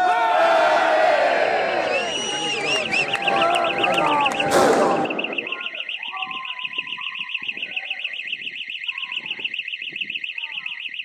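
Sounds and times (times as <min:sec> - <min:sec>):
electronic alarm warbling: 0:02.1 - 0:11.0.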